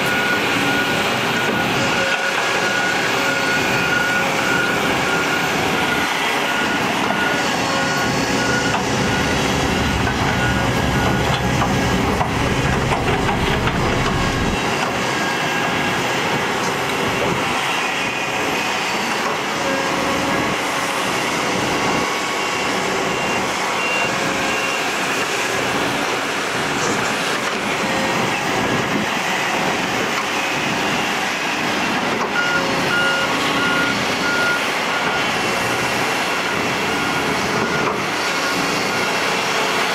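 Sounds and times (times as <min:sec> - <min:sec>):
reversing alarm beeping: 0:00.0 - 0:16.3, 0:17.1 - 0:39.9
heavy diesel engines rumbling: 0:00.0 - 0:39.9.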